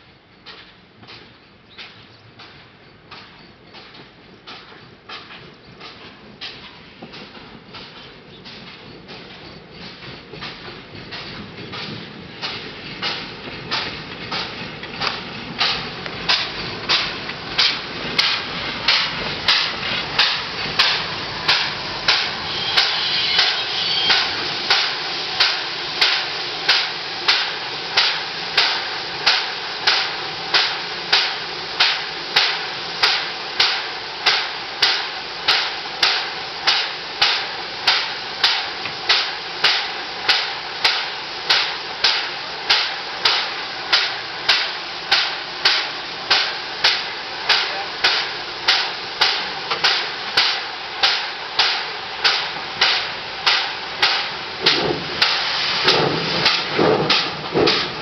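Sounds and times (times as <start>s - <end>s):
train rolling to a stop: 0.0s - 58.0s
steam air brake pump beating: 0.4s - 58.0s
short steam hiss: 6.5s - 58.0s.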